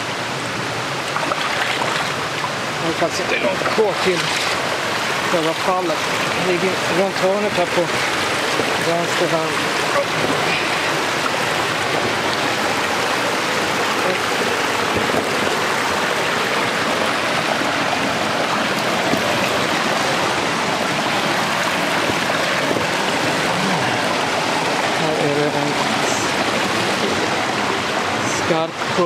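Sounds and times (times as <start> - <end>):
stream water over rocks: 0.0 - 29.0.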